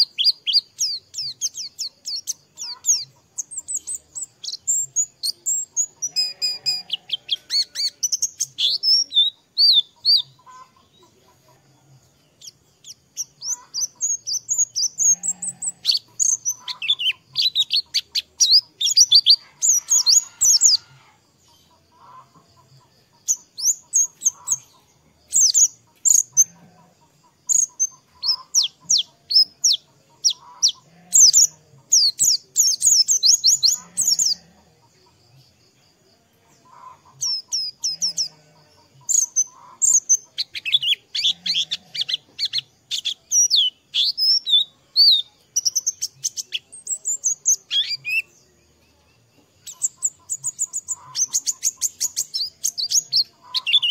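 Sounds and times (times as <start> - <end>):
bird chirping and twittering: 0.0 - 53.9.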